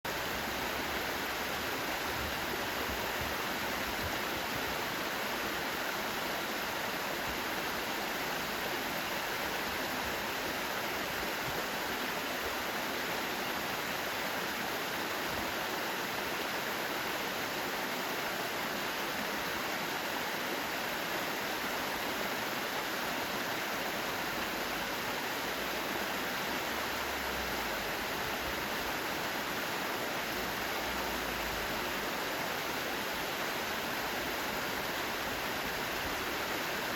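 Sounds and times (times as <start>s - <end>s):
stream rushing over rocks: 0.0s - 36.9s.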